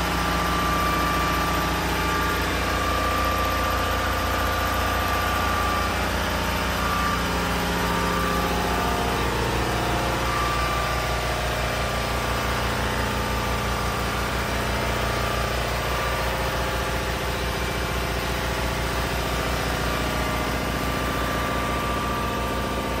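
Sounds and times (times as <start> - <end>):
engine-driven compressor running: 0.0 - 23.0.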